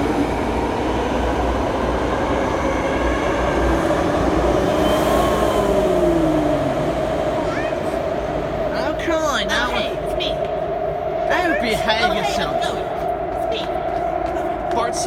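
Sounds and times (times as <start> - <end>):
train rumbling and hissing: 0.0 - 15.0.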